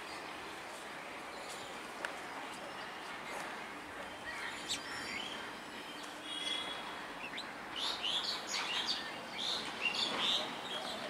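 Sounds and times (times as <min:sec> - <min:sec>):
faint outdoor background noise: 0:00.0 - 0:11.0
small birds chirping: 0:01.3 - 0:11.0.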